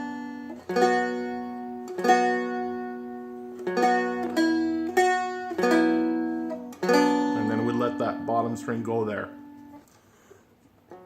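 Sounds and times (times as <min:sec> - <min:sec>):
strummed dulcimer chords: 0:00.0 - 0:09.8.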